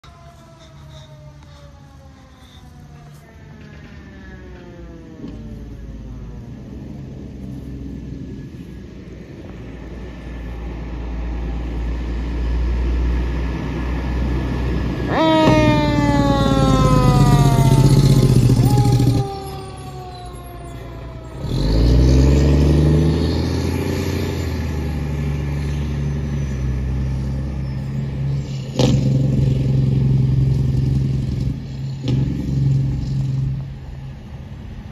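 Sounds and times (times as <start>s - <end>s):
fire engine siren: 0.0s - 28.9s
diesel truck engine rumbling: 0.0s - 34.9s.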